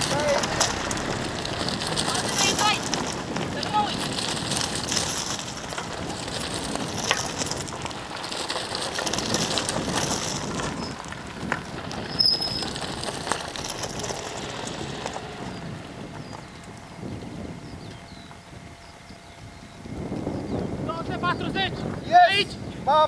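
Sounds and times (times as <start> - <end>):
bike tyres rushing on asphalt: 0.0 - 23.0.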